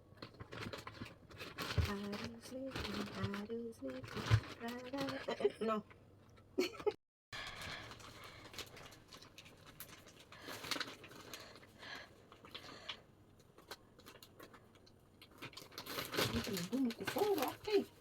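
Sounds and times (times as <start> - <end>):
plastic zip-lock bags crinkling: 0.2 - 5.4, 7.4 - 18.0.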